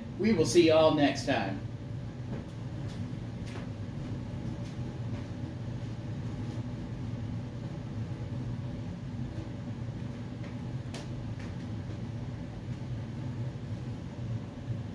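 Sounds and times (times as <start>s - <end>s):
low mechanical hum of machinery: 0.0s - 14.9s.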